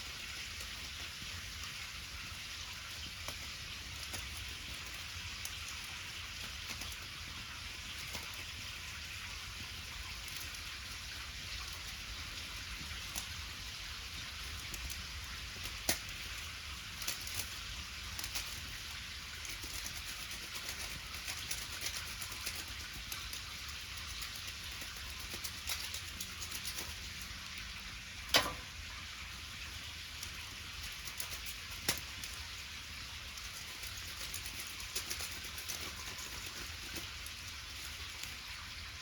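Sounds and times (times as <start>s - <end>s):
bonfire crackling and popping: 0.1s - 39.0s.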